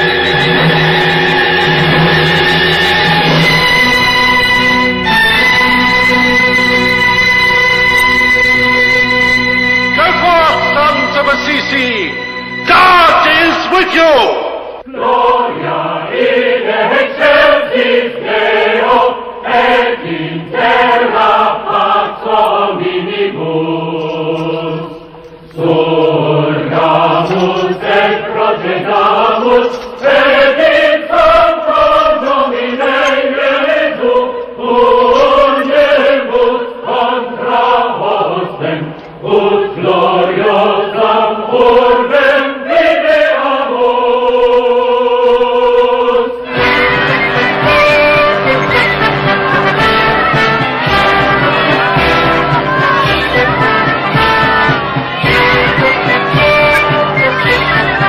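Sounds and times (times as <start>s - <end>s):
choir chanting a hymn: 0.0s - 58.0s.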